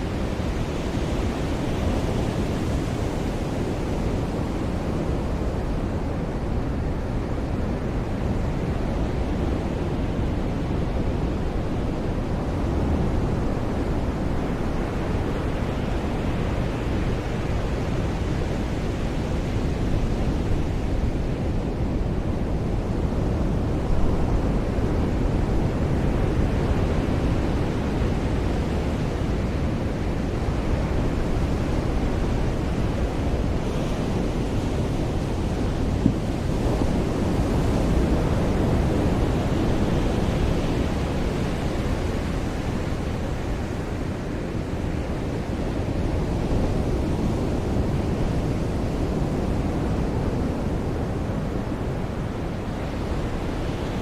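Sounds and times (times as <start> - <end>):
ocean surf breaking on beach: 0.0 - 54.0
wind rumble on microphone: 0.0 - 54.0.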